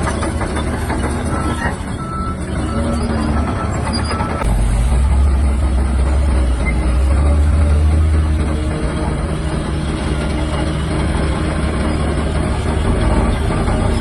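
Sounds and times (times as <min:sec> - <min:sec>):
heavy diesel machinery rumbling: 0:00.0 - 0:14.0.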